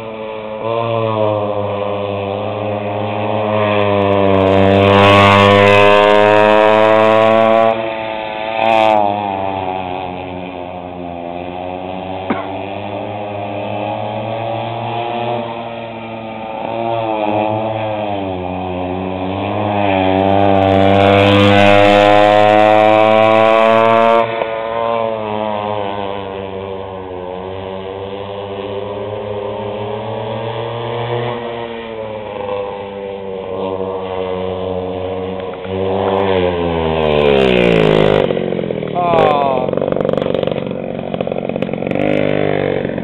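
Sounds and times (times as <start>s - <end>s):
go-kart engine revving: 0.0s - 43.0s.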